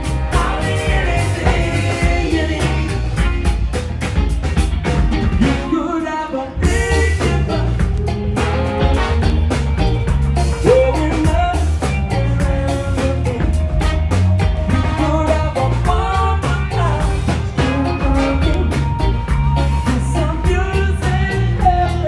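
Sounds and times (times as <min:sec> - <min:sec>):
person singing: 0:00.0 - 0:03.7, 0:05.4 - 0:08.9, 0:10.4 - 0:22.0
live band playing: 0:00.0 - 0:22.0.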